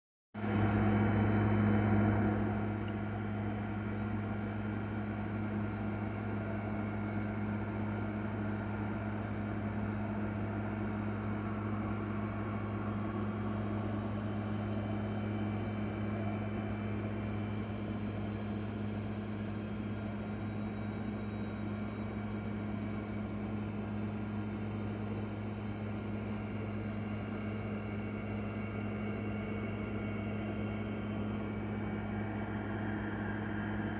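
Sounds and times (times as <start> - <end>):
low machine hum: 0.4 - 33.9.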